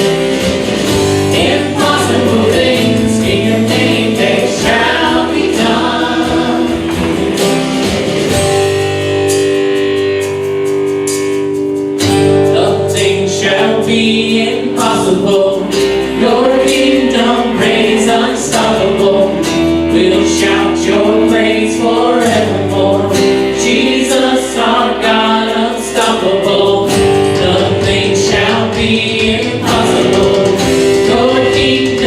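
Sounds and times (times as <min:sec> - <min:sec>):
congregation singing: 0:00.0 - 0:08.8, 0:12.5 - 0:32.0
band with guitar playing: 0:00.0 - 0:32.0.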